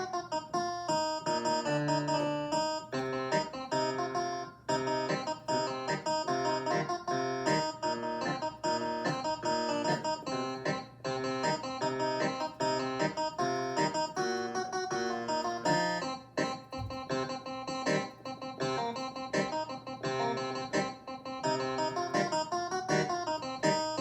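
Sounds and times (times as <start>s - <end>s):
digital piano guitar-like pattern: 0.0s - 24.0s.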